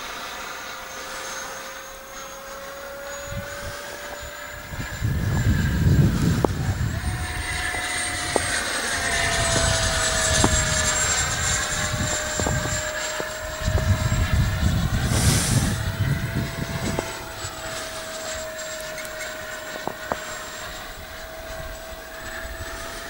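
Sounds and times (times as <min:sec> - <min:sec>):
electric ducted fan whining: 0:00.0 - 0:23.0
wind buffeting microphone: 0:02.3 - 0:23.0.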